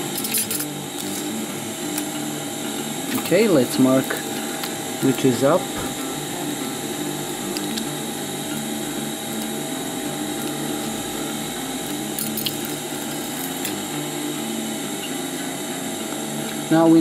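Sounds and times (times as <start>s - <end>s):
steady motor hum: 0.0s - 17.0s.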